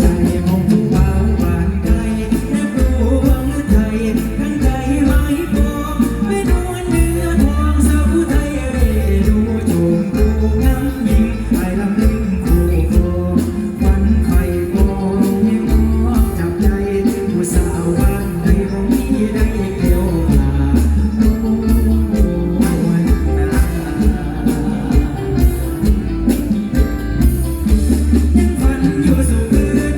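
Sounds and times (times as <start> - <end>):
heavy bass: 0.0 - 29.9
live band music: 0.0 - 29.9
steady drum beat: 0.0 - 29.9.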